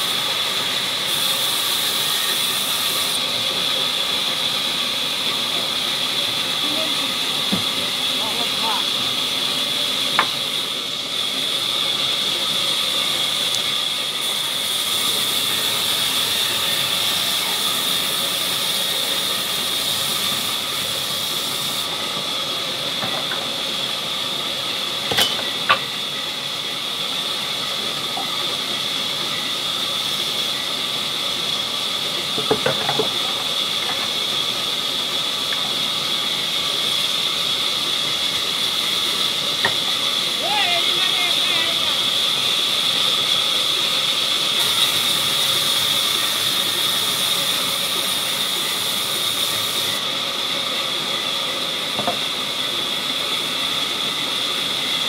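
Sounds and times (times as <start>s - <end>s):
band saw whining: 0.0s - 55.0s.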